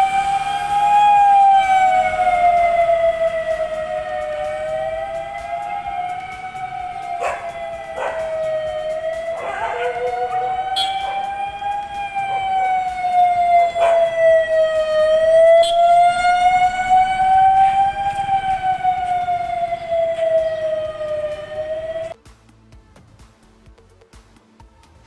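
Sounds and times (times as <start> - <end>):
police siren wailing: 0.0 - 22.2.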